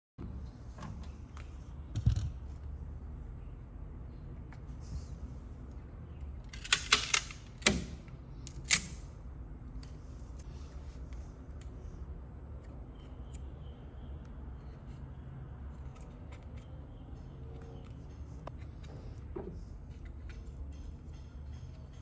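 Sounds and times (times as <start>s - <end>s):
steady low hum: 0.2s - 22.0s.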